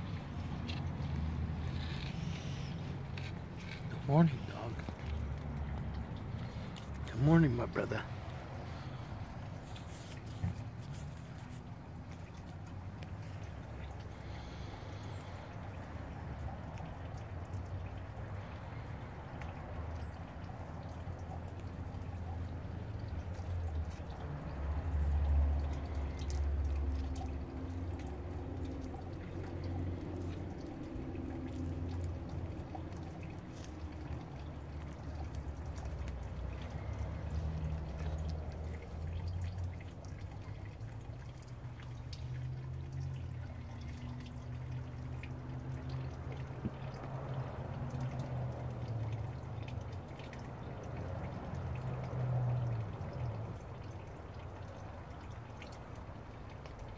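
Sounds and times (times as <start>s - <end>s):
water trickling and pouring: 0.0s - 56.9s.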